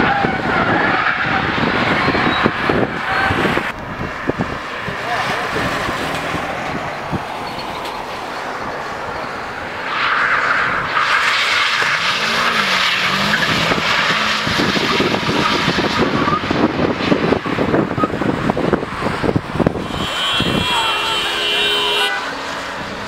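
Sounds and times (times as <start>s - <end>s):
car engine revving: 0.0s - 8.0s, 8.8s - 23.0s
tyres skidding on wet road: 0.0s - 23.0s.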